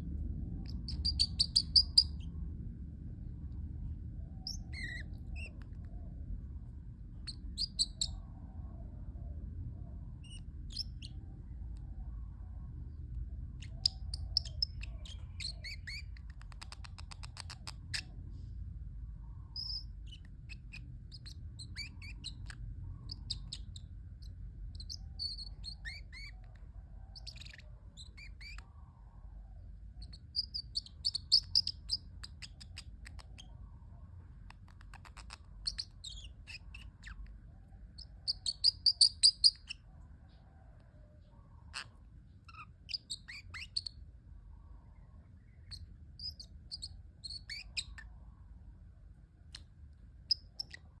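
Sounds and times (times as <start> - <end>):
small parrot chirping: 0.5 - 2.5, 4.2 - 8.6, 10.0 - 18.3, 19.1 - 40.6, 41.2 - 44.1, 44.8 - 48.3, 49.4 - 51.0.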